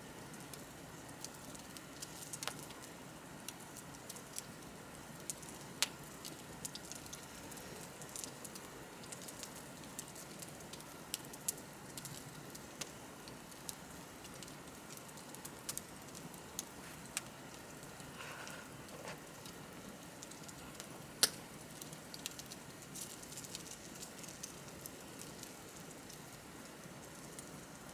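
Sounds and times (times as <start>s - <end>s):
soft hiss of flames: 0.0s - 27.9s
bonfire crackling and popping: 0.3s - 27.9s.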